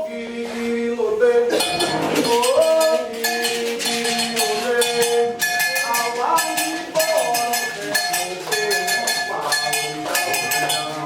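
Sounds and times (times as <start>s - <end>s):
metal bell struck rhythmically: 1.5s - 11.0s.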